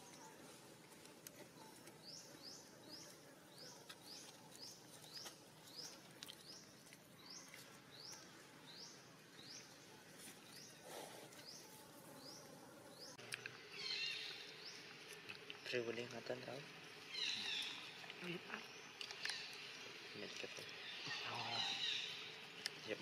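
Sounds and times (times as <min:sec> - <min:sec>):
bird chirping: 0:01.3 - 0:23.0.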